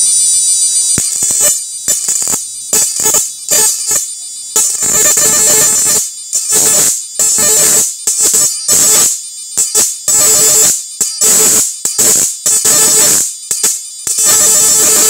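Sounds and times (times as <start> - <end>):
electric arc buzzing crackle: 0.0 - 15.0
steady electrical hum: 0.0 - 15.0.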